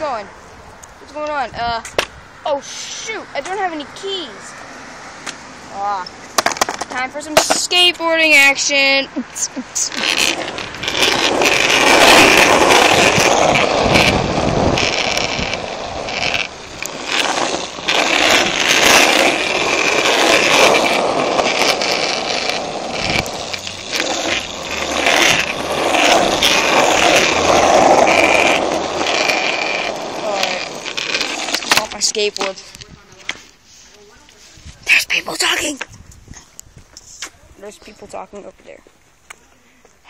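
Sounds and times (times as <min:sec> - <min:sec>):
skateboard wheels rolling on asphalt: 0:00.0 - 0:40.0.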